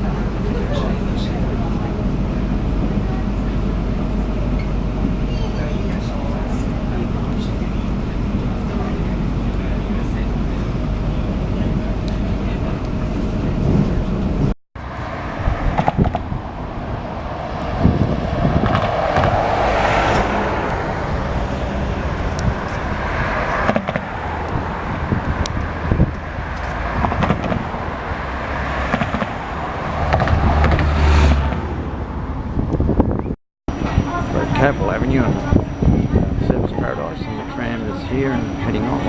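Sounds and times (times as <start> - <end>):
low engine drone: 0.0 - 39.0
traffic noise: 0.0 - 39.0.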